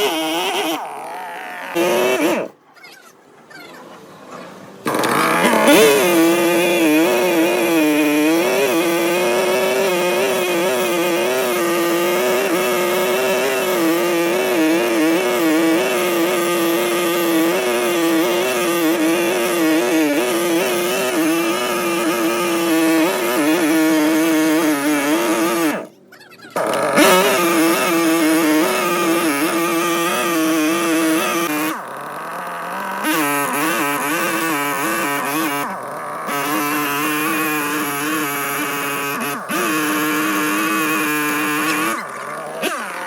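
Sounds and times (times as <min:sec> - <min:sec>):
chainsaw running at high revs: 0:00.0 - 0:02.6, 0:04.8 - 0:25.9, 0:26.6 - 0:43.0.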